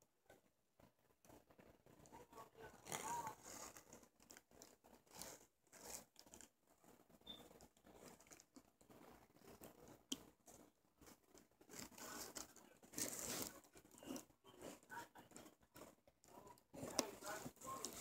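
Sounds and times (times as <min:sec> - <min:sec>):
fabric and plastic rustling: 0:00.8 - 0:18.0.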